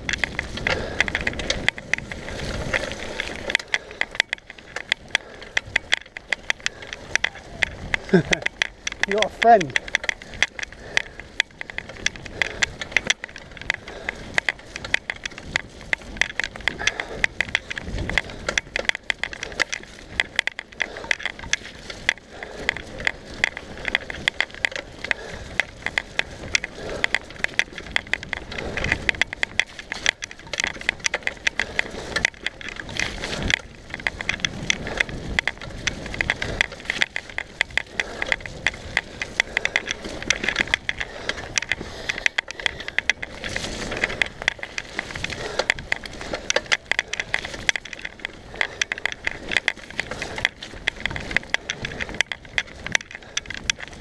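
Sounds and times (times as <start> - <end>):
bike rattling over rough ground: 0.0 - 54.0
tyres on dirt: 0.0 - 54.0.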